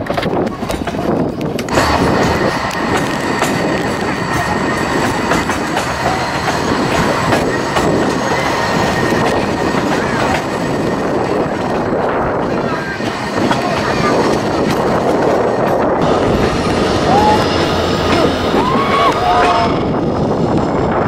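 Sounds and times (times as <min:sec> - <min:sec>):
train wheel rumble and clicks: 0:00.0 - 0:21.0.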